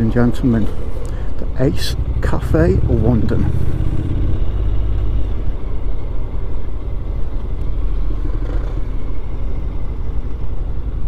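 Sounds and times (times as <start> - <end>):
road noise: 0.0 - 11.0
motorcycle engine rumble: 0.3 - 11.0.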